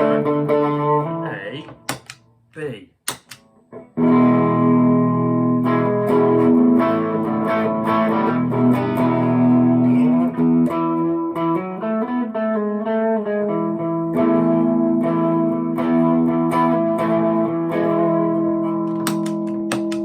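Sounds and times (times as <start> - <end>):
overdriven electric guitar: 0.0 - 1.3, 3.6 - 20.0.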